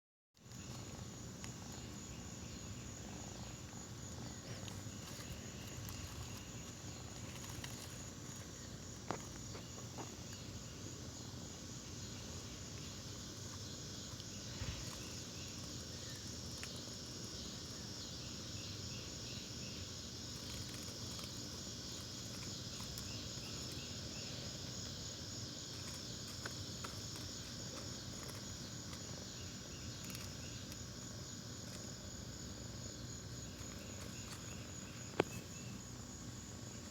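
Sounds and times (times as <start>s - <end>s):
cicada buzzing: 0.4s - 36.9s.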